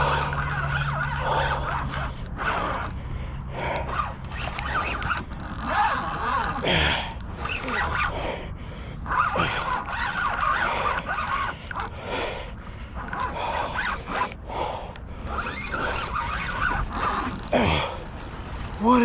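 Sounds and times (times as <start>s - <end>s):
fishing reel gears whining: 0.0s - 8.4s, 9.0s - 12.4s, 13.0s - 14.4s, 15.2s - 17.9s.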